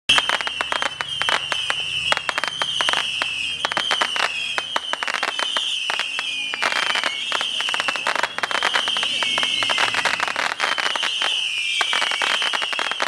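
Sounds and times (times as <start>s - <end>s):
fireworks crackling: 0.1s - 13.0s.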